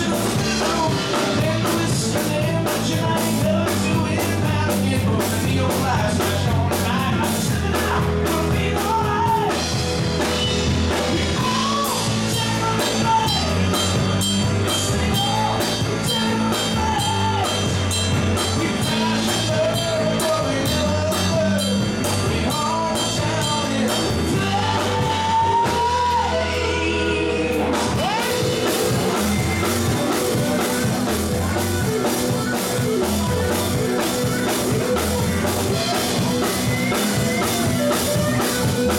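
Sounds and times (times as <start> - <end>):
bass guitar: 0.0 - 38.9
drum kit: 0.0 - 38.9
electric guitars: 0.0 - 38.9
electric keyboard: 0.0 - 38.9
lead vocal singing: 0.0 - 38.9.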